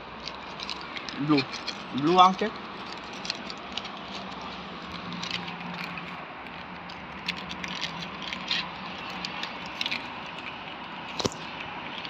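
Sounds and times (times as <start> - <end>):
snack package clicks and rattles: 0.2 - 12.0.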